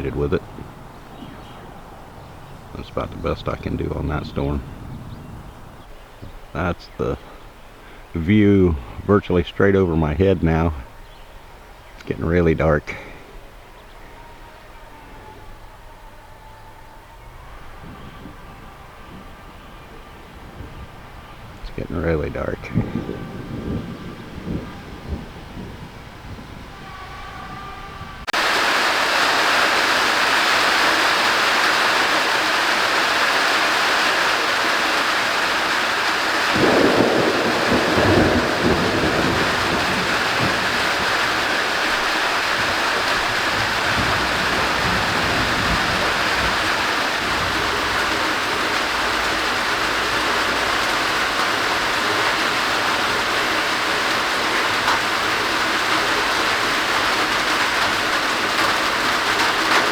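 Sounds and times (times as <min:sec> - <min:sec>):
thunder rumbling: 0:00.0 - 0:07.4, 0:17.2 - 0:59.9
heavy rain pouring: 0:00.0 - 0:14.5, 0:16.9 - 0:59.9.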